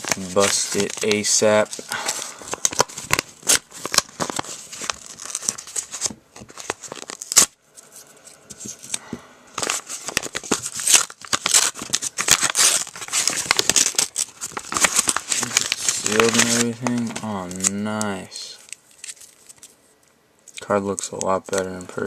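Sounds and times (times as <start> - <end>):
paper tearing and crinkling: 0.0 - 9.0, 9.6 - 19.8.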